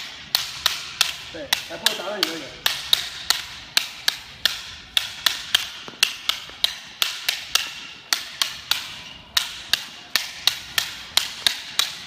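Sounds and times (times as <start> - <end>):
sticks clacking together: 0.0 - 12.0.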